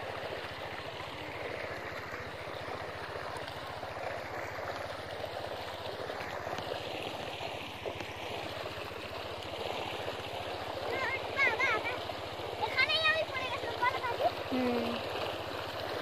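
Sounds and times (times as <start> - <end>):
rushing water-like noise: 0.0 - 16.0
small engine chugging: 0.0 - 16.0.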